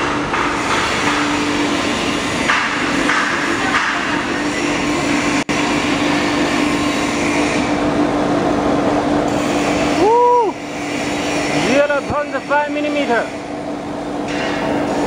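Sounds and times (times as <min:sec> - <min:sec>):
foam splitting machine humming: 0:00.0 - 0:15.0.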